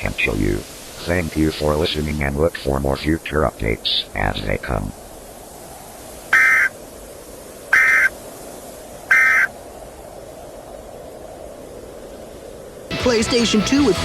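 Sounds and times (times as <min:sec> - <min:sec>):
static hiss: 0:00.0 - 0:12.6.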